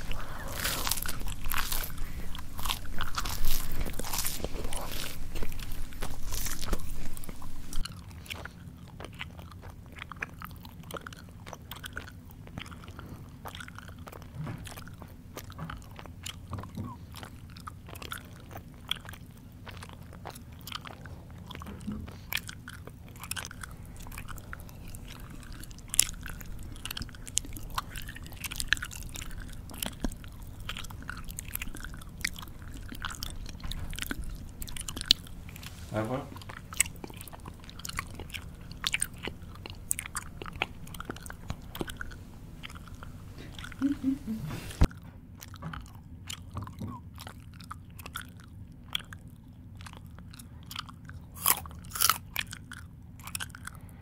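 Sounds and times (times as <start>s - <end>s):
faint low hum: 0.0s - 54.0s
person chewing food: 0.0s - 54.0s.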